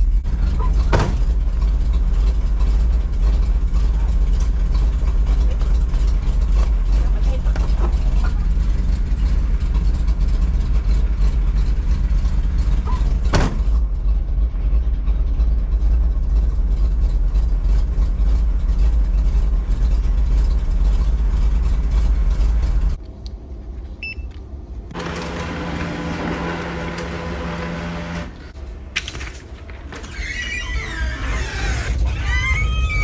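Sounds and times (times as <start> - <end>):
engine idling hum: 0.0 - 23.7, 24.5 - 28.9
vehicle driving rumble: 0.0 - 24.0, 24.6 - 33.0.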